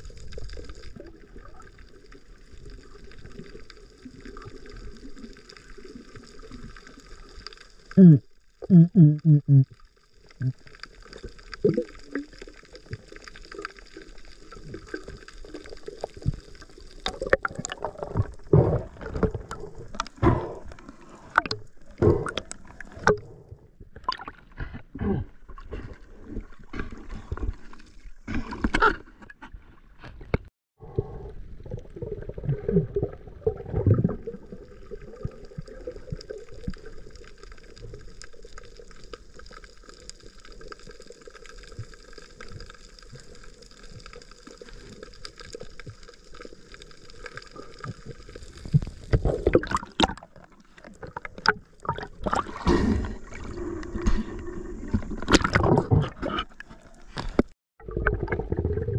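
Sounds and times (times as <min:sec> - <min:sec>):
water gurgling and sloshing: 0:00.0 - 0:58.9.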